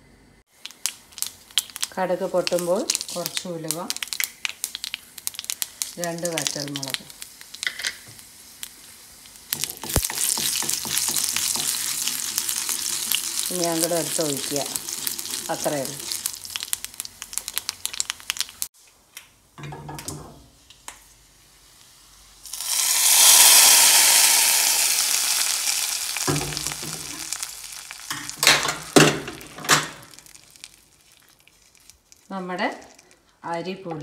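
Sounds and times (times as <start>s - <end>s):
seeds crackling in hot oil: 0.4s - 34.0s
hot oil hissing on curry: 0.5s - 18.7s, 21.0s - 33.1s.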